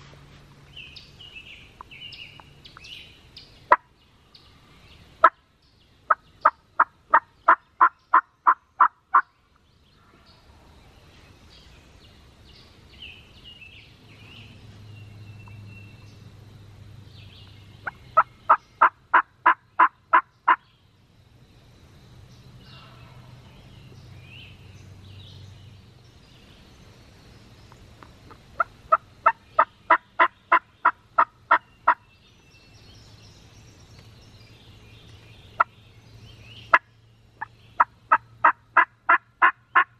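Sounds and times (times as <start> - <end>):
faint songbird chirps: 0.0 - 39.9.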